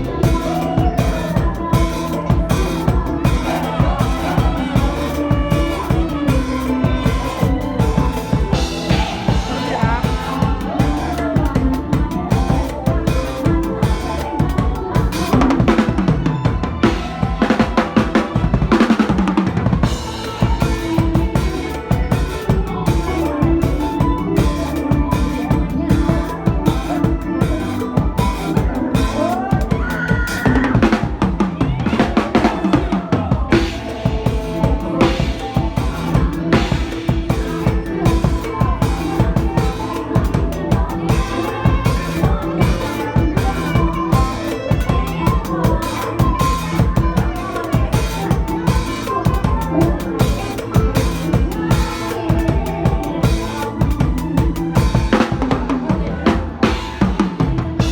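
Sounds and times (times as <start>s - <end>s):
band melody: 0.0s - 57.9s
fast drum kit beat: 0.0s - 57.9s.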